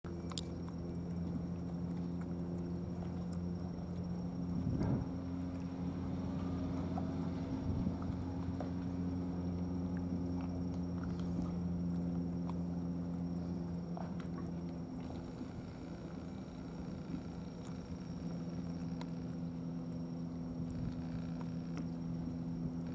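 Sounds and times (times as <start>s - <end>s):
cats chewing wet food: 0.1s - 22.9s
low engine hum: 0.1s - 22.9s.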